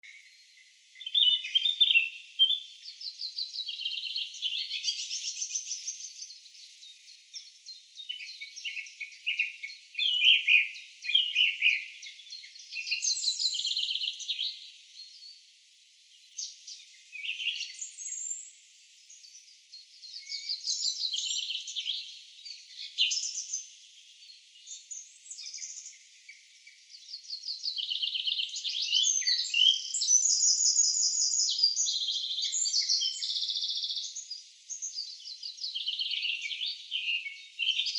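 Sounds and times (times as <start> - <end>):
songbirds trilling and chirping: 0.0 - 37.9.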